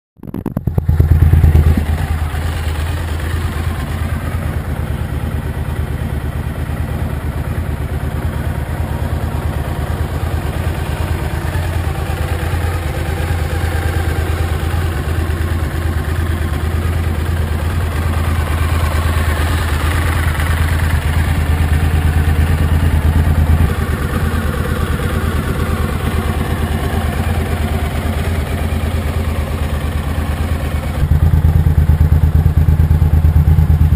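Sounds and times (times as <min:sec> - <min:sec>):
motorbike engine running: 0:00.2 - 0:33.9.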